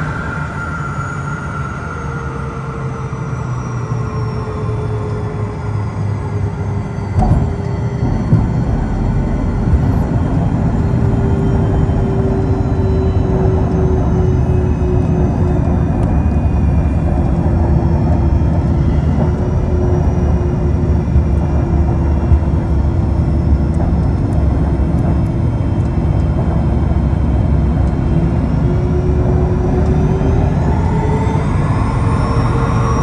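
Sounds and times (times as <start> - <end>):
jet engine whine: 0.0 - 33.0
wheels and airflow rumble: 0.0 - 33.0.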